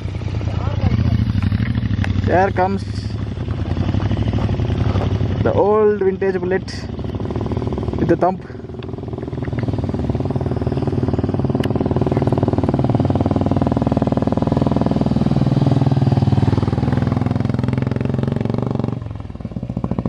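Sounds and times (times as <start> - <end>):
motorcycle engine thumping: 0.7 - 20.0.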